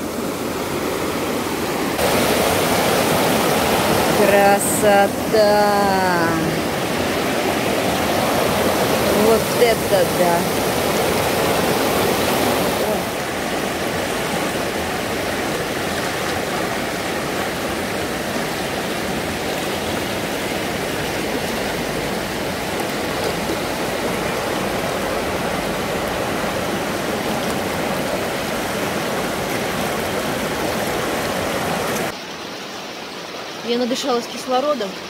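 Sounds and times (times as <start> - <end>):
river rushing over stones: 0.0 - 35.0.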